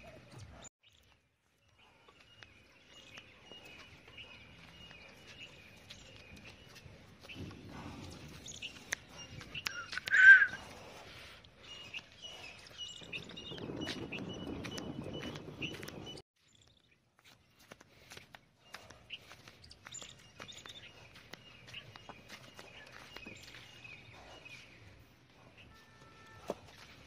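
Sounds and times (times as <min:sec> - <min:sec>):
footsteps on sandy ground: 0:00.0 - 0:27.0
small birds chirping: 0:00.0 - 0:27.0.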